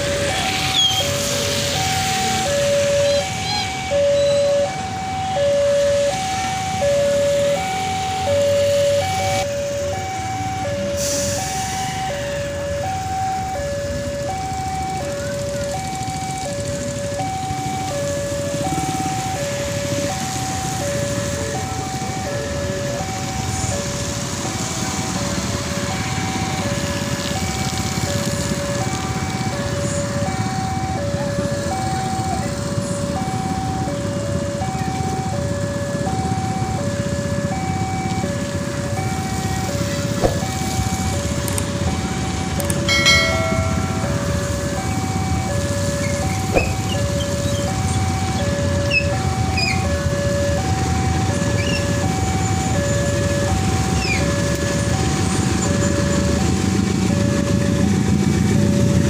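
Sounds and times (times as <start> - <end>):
level crossing two-tone alarm: 0.0 - 59.0
road vehicle engines idling: 0.0 - 59.0.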